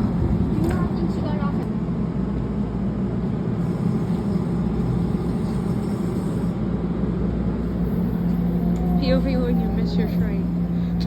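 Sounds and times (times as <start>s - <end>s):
train rumbling and humming: 0.0s - 11.0s.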